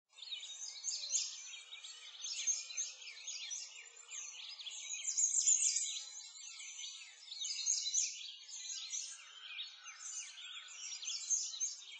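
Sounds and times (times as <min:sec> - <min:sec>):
small birds chirping: 0:00.1 - 0:11.9.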